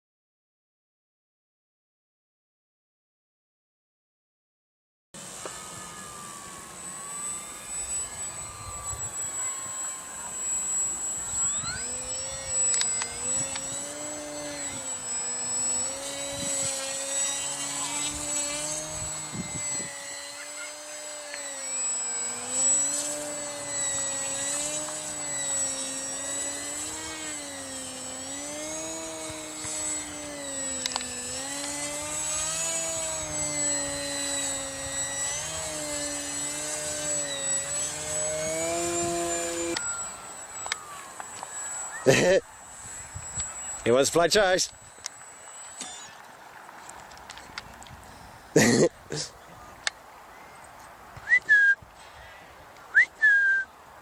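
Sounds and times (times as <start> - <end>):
model aircraft engine droning: 5.2 - 54.0
thin steady high whine: 5.2 - 54.0.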